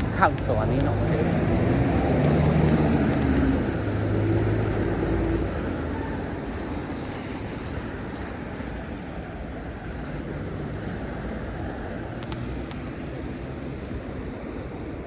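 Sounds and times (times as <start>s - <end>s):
vehicle engine humming: 0.0s - 15.0s
wet road noise: 0.0s - 15.0s
wind rushing on microphone: 0.0s - 15.0s.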